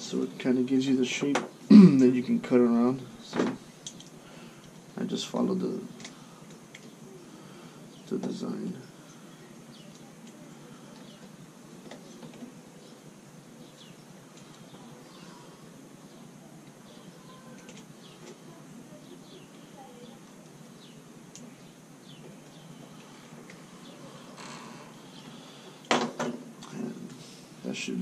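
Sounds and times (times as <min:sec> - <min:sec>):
small birds chirping: 0:00.0 - 0:25.9
low background hum: 0:00.0 - 0:28.0.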